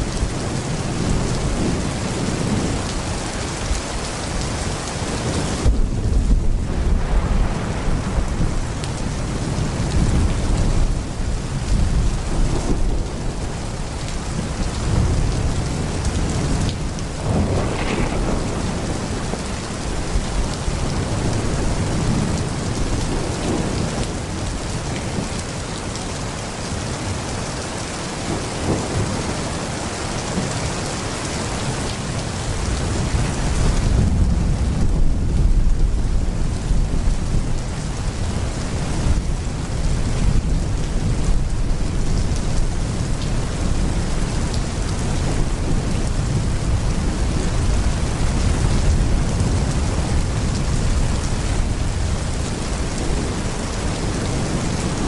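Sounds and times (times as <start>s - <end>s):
thunder rumbling: 0.0s - 27.3s, 28.2s - 55.0s
pouring rain: 0.0s - 55.0s.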